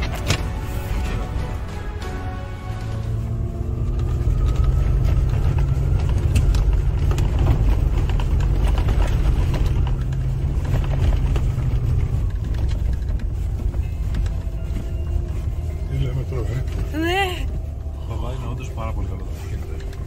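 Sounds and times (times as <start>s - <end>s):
low engine rumble: 0.0s - 20.0s
tyres crunching over snow: 0.0s - 20.0s.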